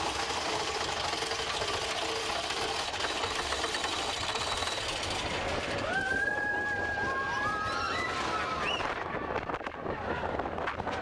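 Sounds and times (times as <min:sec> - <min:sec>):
roller coaster cars rattling: 0:00.0 - 0:11.0.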